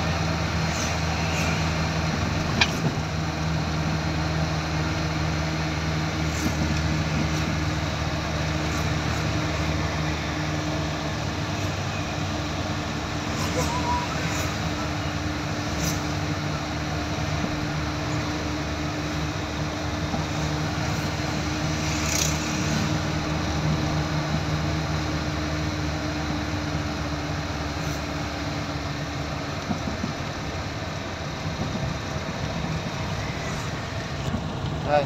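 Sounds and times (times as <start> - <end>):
car engine hum: 0.0 - 35.0
road and tyre noise: 0.0 - 35.0.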